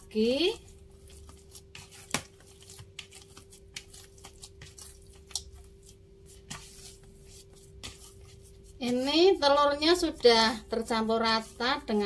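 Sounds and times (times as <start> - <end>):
hand squelching wet dough: 0.0 - 12.0.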